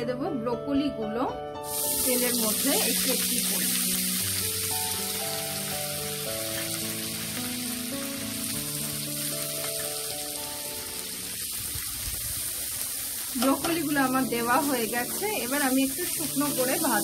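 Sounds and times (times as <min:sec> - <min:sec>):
background music: 0:00.0 - 0:12.0, 0:13.3 - 0:17.0
vegetables sizzling in oil: 0:01.6 - 0:17.0.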